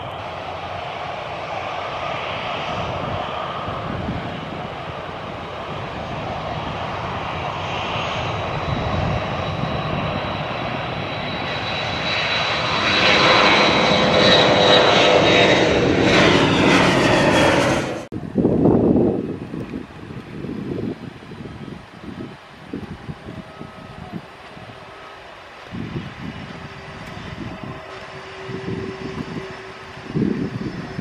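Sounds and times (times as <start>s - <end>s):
high jet whine: 0.0s - 31.0s
jet airliner taking off: 0.0s - 31.0s.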